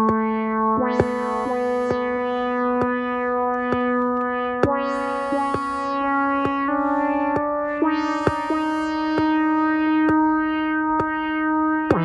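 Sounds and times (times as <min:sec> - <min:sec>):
held synth note: 0:00.2 - 0:12.0.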